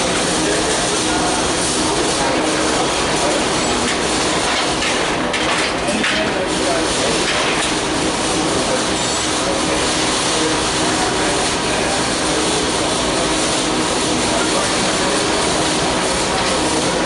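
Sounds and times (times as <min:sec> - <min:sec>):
loud machinery noise: 0:00.0 - 0:17.0.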